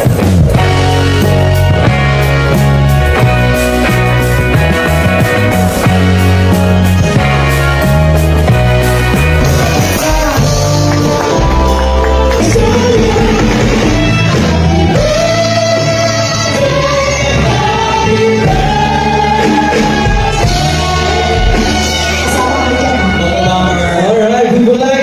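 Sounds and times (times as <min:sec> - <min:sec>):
live band playing: 0:00.0 - 0:25.0
singers holding long notes: 0:00.6 - 0:25.0.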